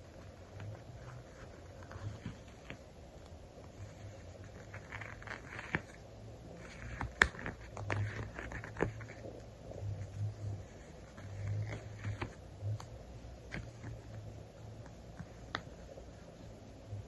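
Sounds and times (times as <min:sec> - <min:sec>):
sticker sheets peeling and rustling: 0:00.1 - 0:14.2.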